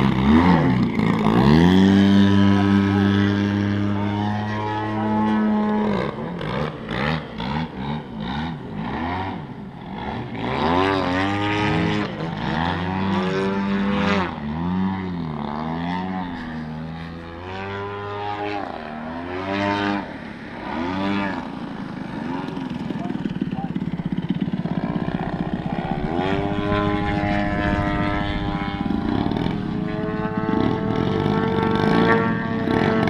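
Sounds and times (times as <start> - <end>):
model plane engines rising and falling: 0.0 - 33.0.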